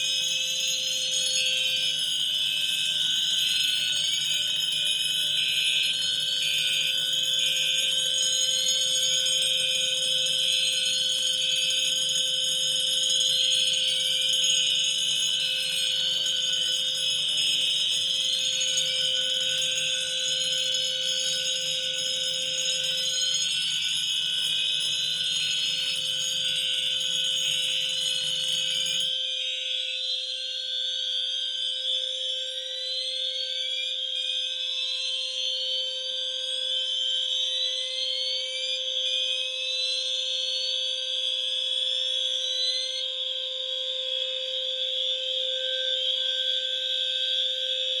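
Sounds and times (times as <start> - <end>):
steady high-pitched alarm tone: 0.0 - 48.0.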